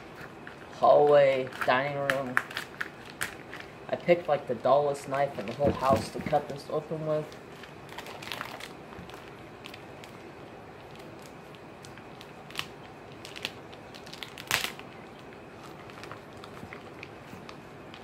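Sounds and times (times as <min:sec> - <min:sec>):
plastic wrapping crinkling: 0:00.0 - 0:04.4, 0:05.1 - 0:18.0
sharp plastic crackles: 0:00.1 - 0:04.3, 0:05.4 - 0:18.0.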